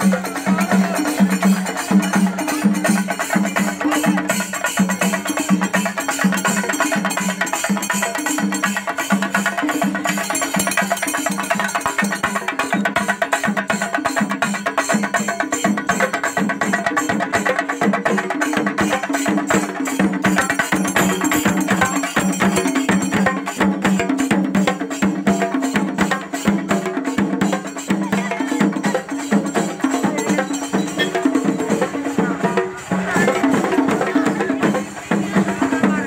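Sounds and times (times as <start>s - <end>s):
drums beaten with sticks: 0.0s - 36.0s.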